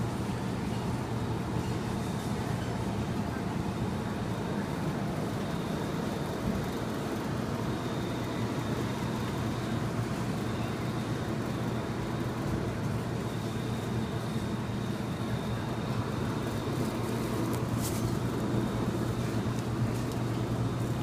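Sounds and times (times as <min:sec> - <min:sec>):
faint high whine: 0:00.0 - 0:21.0
refrigerator hum: 0:00.0 - 0:21.0.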